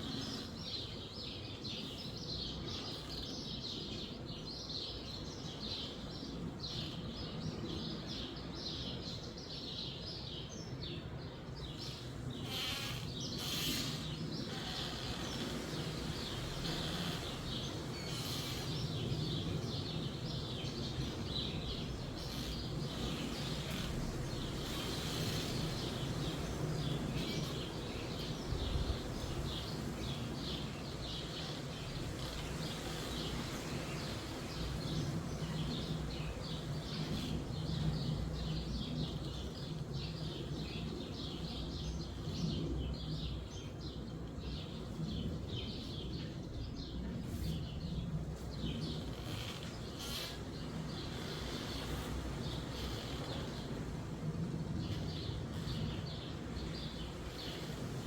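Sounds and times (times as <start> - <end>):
low rumble of wind: 0.0 - 58.0
small birds chirping: 0.0 - 58.0.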